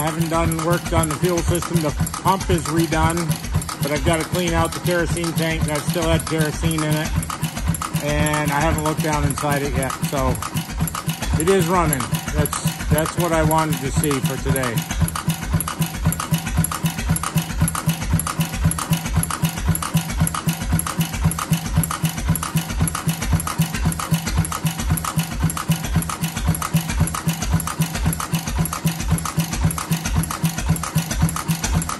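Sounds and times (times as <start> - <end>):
stationary gas engine chuffing: 0.0 - 31.9.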